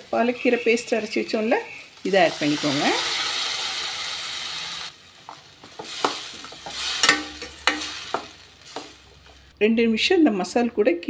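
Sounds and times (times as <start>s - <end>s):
paste sizzling in hot oil: 0.0s - 9.5s.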